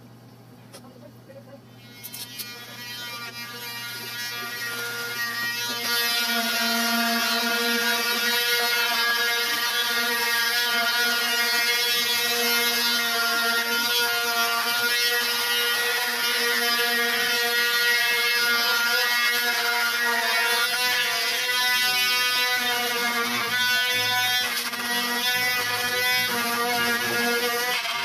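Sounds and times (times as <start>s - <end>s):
angle grinder whining on steel: 1.7s - 28.0s.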